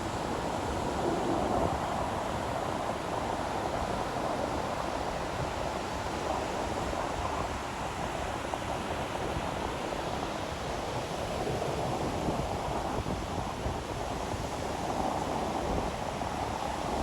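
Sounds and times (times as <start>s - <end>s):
ocean waves surf hiss: 0.0s - 17.0s.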